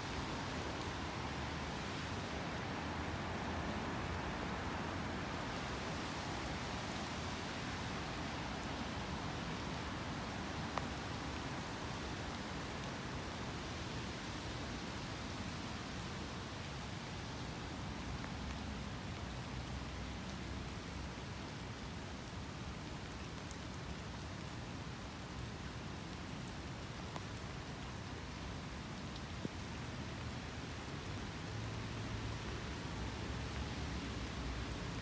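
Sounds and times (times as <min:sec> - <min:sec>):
rain falling steadily: 0:00.0 - 0:35.0.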